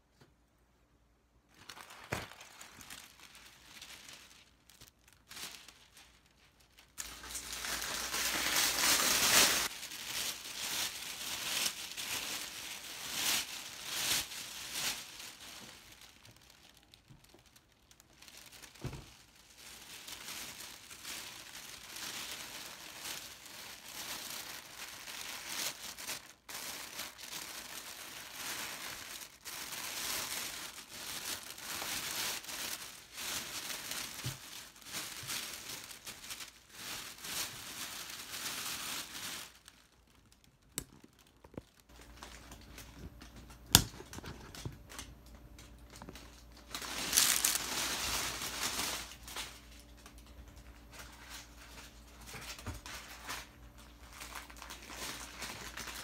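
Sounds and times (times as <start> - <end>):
plastic bag crinkling: 1.4 - 56.0.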